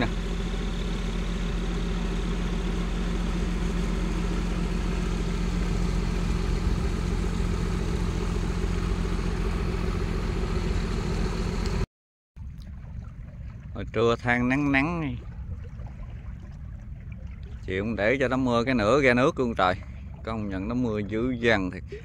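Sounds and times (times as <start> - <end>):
wind and water noise: 0.0 - 11.8, 12.4 - 22.0
boat engine running: 0.0 - 22.0.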